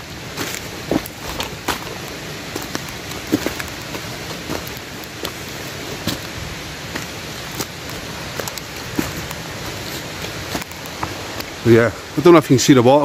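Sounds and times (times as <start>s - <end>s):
footsteps on dry leaves: 0.0s - 11.4s
steady rushing noise: 0.0s - 13.0s.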